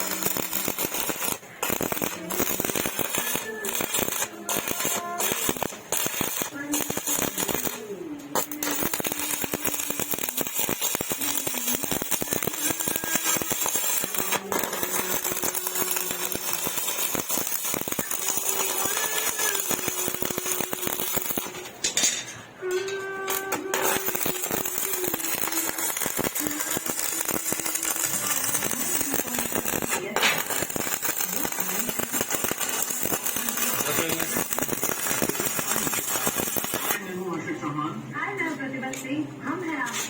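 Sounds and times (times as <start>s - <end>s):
welding arc crackling: 0.0s - 37.3s.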